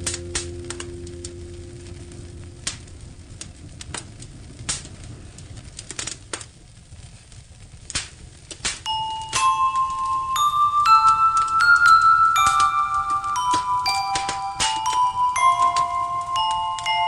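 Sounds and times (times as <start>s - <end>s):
firewood crackling and popping: 0.0s - 17.0s
low steady hiss: 0.0s - 17.0s.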